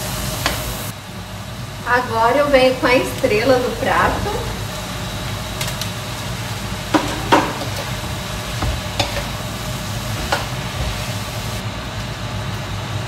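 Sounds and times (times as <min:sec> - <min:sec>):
food sizzling in a pan: 0:00.0 - 0:11.6.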